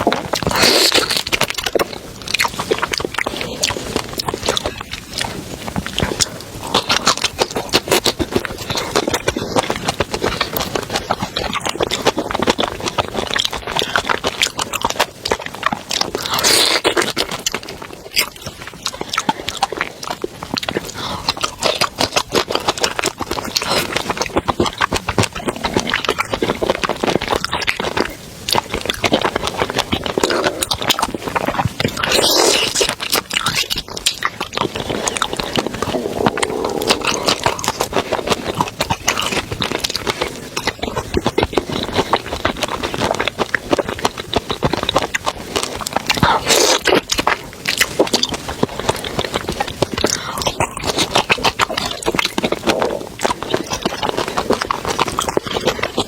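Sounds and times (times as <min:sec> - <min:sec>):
close chewing and crunching: 0:00.0 - 0:56.0.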